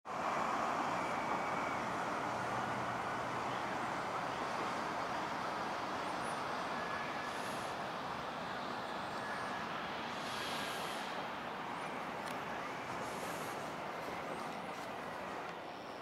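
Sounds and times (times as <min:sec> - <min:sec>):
road traffic hum: 0:00.1 - 0:16.0.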